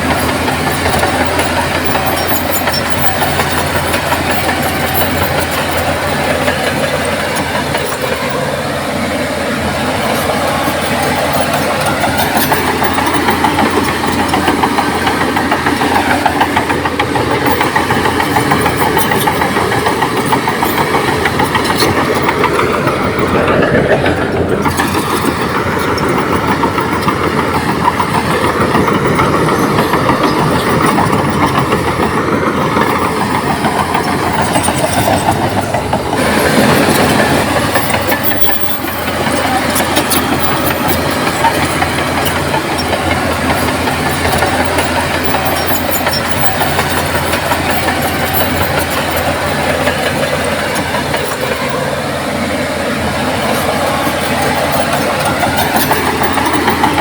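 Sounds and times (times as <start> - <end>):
bulldozer diesel engine under load: 0.0 - 57.0
steel crawler tracks clattering: 0.0 - 57.0.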